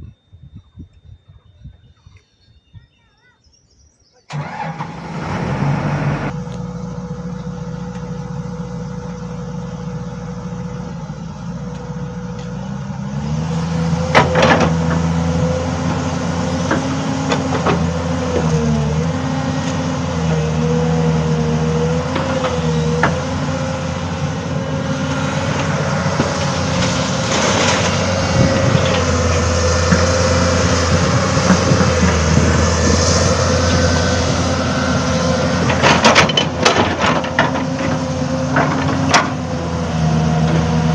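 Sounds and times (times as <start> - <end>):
excavator diesel engine: 4.3 - 40.9.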